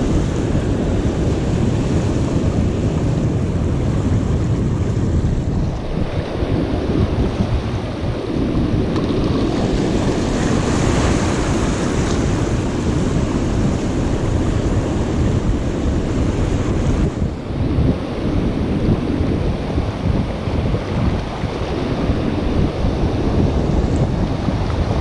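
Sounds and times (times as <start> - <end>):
surf washing among rocks: 0.0 - 25.0
wind buffeting microphone: 0.0 - 25.0.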